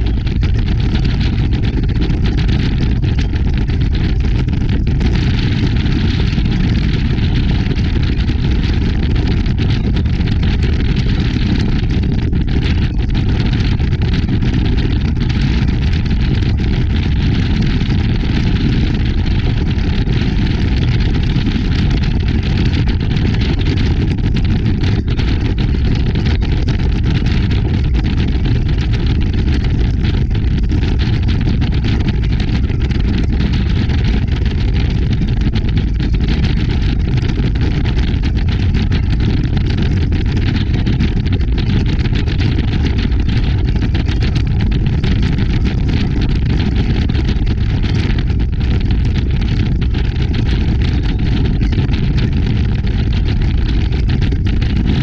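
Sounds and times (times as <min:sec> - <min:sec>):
powerboat engine and rushing water: 0:00.0 - 0:55.0.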